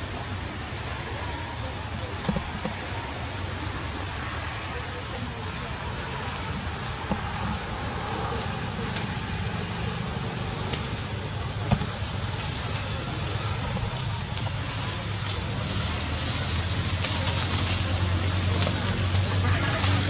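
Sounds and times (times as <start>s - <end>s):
outdoor rumble and hiss: 0.0s - 20.0s.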